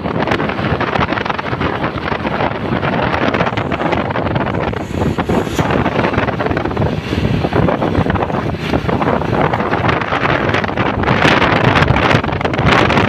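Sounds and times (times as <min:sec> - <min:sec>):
road traffic noise: 0:00.0 - 0:13.0
wind buffeting microphone: 0:00.0 - 0:13.0.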